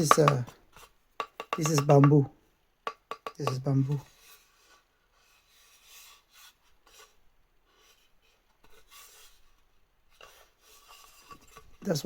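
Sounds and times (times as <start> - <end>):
hands rubbing bamboo: 0.0 - 2.3, 3.0 - 12.0.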